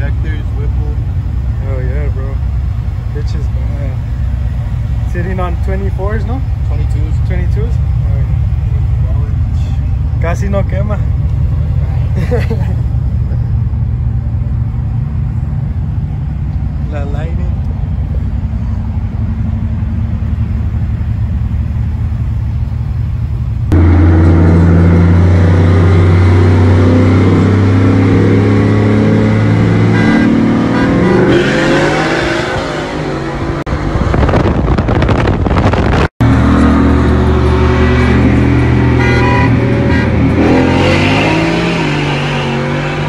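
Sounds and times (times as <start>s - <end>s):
pickup truck engine drone: 0.0s - 43.0s.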